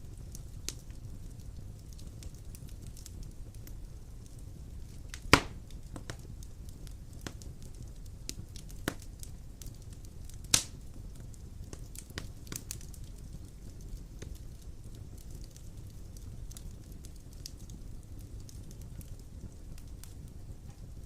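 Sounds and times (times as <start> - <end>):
loud pops from burning logs: 0.0 - 21.0
wood fire burning: 0.0 - 21.0.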